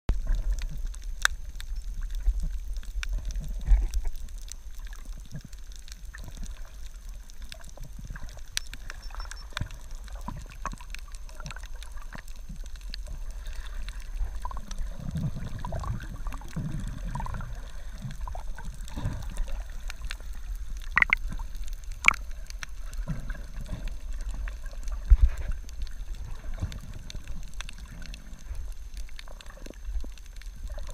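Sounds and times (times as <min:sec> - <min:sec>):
muffled underwater water rumble: 0:00.1 - 0:30.9
sharp underwater clicks and crackles: 0:00.1 - 0:30.9.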